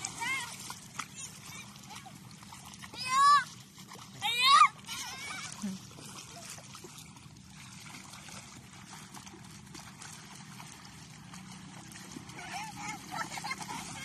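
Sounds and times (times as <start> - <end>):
shallow water splashing: 0.0 - 14.0.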